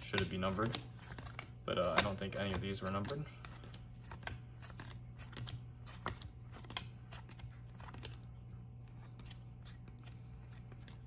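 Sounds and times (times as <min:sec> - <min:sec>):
low steady hum: 0:00.0 - 0:11.0
trading cards clicking and sliding: 0:00.0 - 0:11.0.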